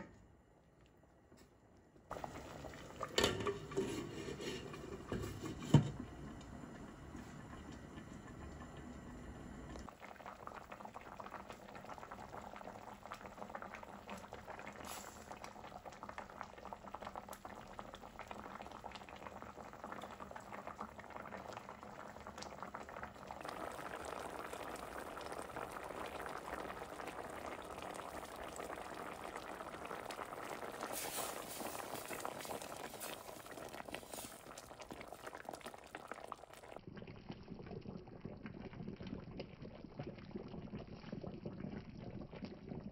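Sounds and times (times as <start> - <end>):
curry bubbling in a pot: 2.1 - 42.9.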